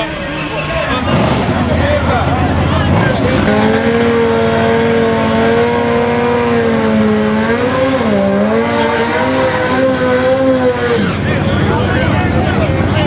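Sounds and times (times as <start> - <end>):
motorcycle engine revving high: 0.7 - 13.0.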